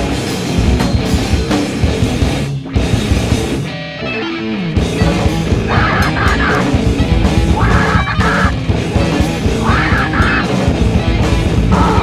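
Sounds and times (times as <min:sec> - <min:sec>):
heavy metal music: 0:00.0 - 0:12.0.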